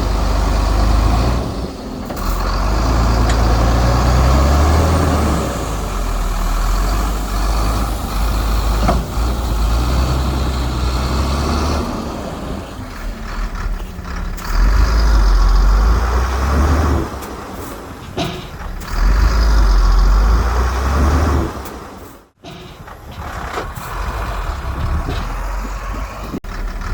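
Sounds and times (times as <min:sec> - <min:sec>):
heavy diesel machinery rumbling: 0:00.0 - 0:26.9.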